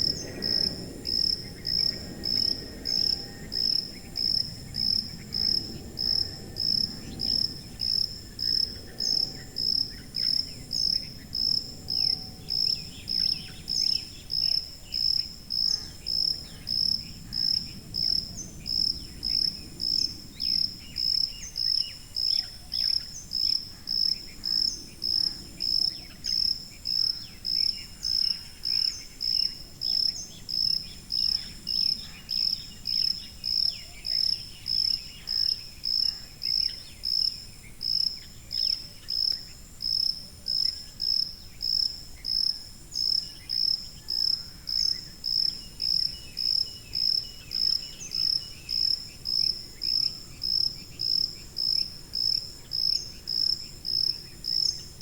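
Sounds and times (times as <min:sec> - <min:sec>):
cricket chirping: 0:00.0 - 0:55.0
faint insect sounds: 0:00.0 - 0:55.0.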